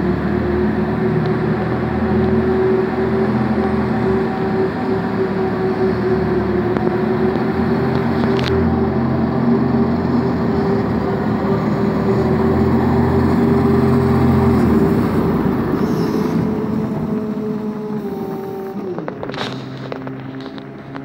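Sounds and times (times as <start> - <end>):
ice resurfacer hum and whine: 0.0 - 21.0
low rumble: 3.7 - 21.0.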